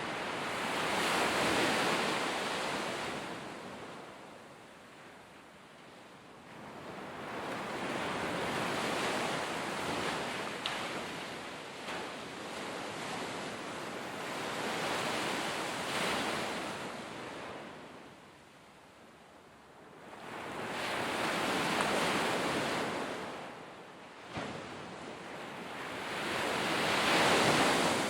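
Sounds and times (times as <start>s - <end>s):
sea waves breaking on shore: 0.0s - 18.5s, 19.8s - 28.0s.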